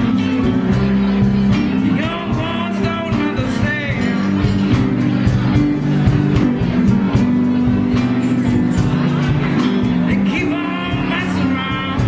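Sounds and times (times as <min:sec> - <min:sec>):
drum kit beat: 0:00.0 - 0:12.0
electric bass: 0:00.0 - 0:12.0
electric guitars: 0:00.0 - 0:12.0
keyboards: 0:00.0 - 0:12.0.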